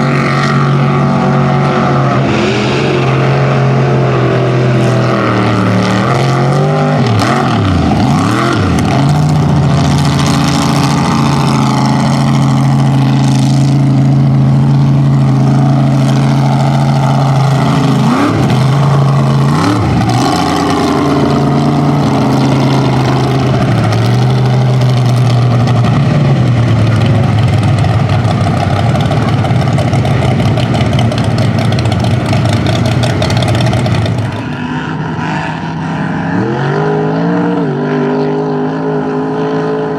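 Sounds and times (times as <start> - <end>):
truck engine revving hard: 0.0 - 39.9.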